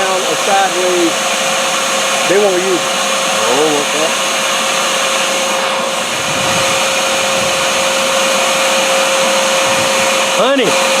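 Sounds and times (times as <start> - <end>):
vacuum motor whining: 0.0 - 11.0.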